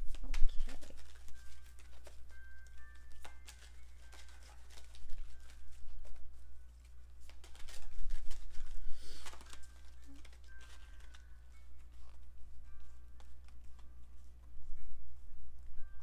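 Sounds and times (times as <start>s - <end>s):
cards clicking and shuffling: 0.0s - 14.6s
cards rustling: 0.0s - 14.6s
faint background music: 0.0s - 16.0s.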